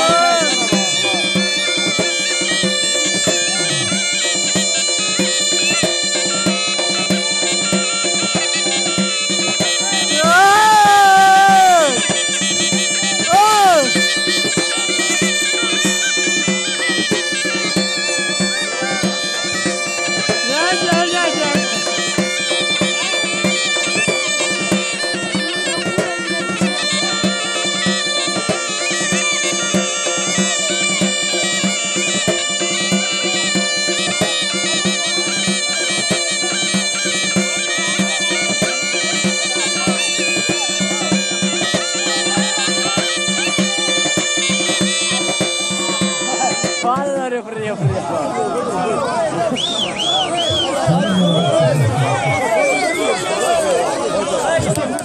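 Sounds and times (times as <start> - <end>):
reedy pipe melody: 0.0 - 48.1, 49.0 - 55.0.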